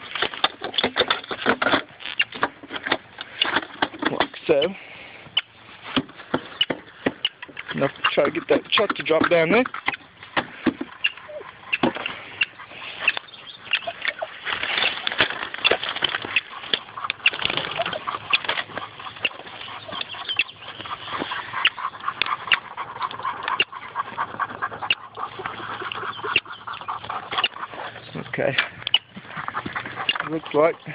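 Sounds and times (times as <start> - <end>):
sharp clicks and knocks on wood: 0.0 - 4.4, 5.4 - 27.7
animal noises: 0.0 - 30.9.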